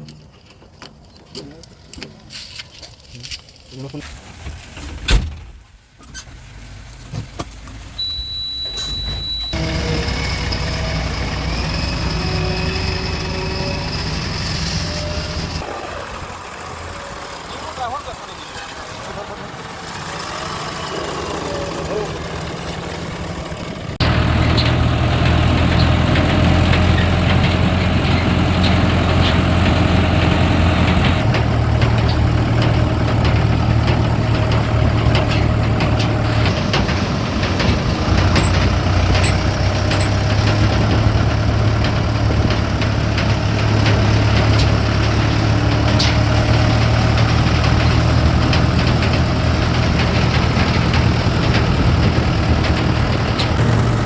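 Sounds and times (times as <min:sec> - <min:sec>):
heavy diesel engine running: 0:07.8 - 0:54.0.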